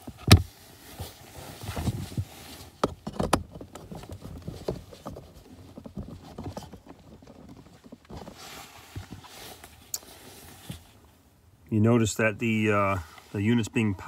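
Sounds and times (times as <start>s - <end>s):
rustling: 0.0s - 11.4s.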